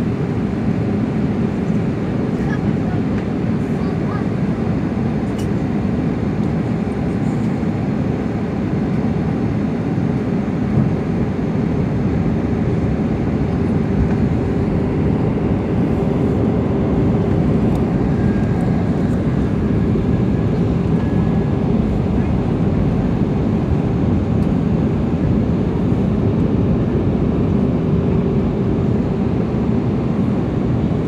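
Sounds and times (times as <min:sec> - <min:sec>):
airplane cabin noise: 0:00.0 - 0:31.0.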